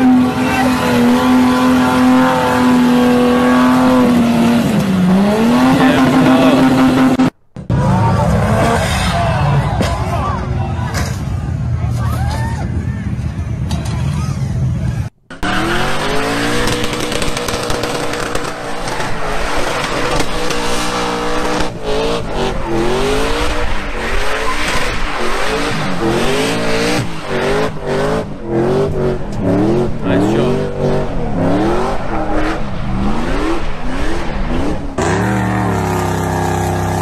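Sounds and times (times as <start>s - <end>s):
engine revving: 0.0s - 9.8s, 13.7s - 37.0s
steady engine drone: 0.0s - 12.0s, 12.6s - 37.0s
tyres skidding on dirt: 0.0s - 37.0s.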